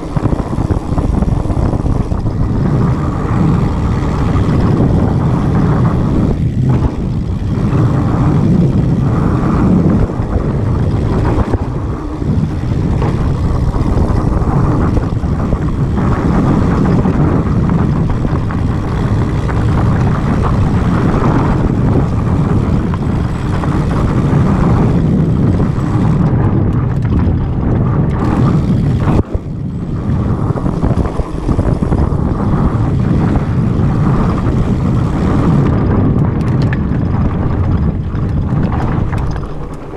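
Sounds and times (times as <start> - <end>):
bike tyres rolling over dirt: 0.0 - 39.9
wind buffeting microphone: 0.0 - 39.9.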